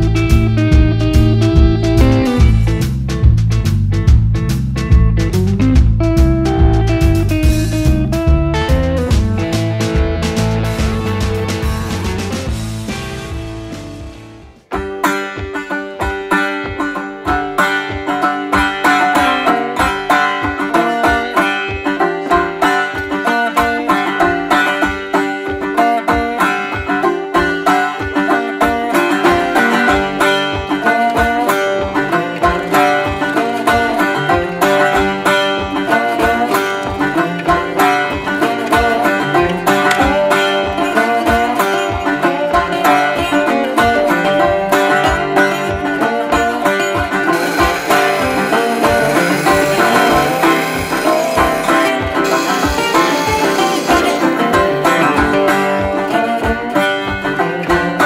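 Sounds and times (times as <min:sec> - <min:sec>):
upbeat bluegrass banjo music: 0:00.0 - 0:58.0.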